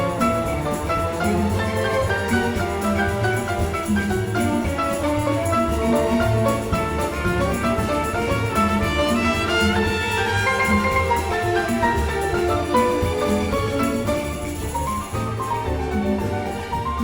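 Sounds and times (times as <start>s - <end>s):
piano and orchestra samba: 0.0s - 17.0s.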